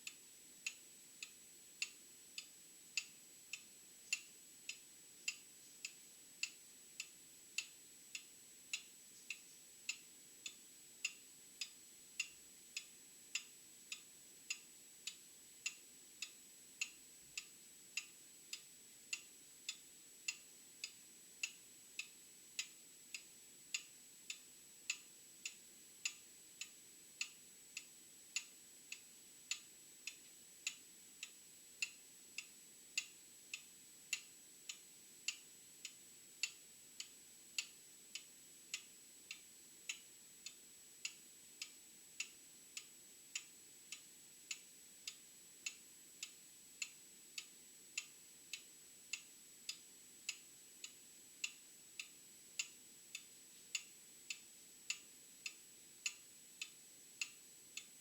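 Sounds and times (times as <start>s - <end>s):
mechanical clock ticking: 0.0s - 57.9s.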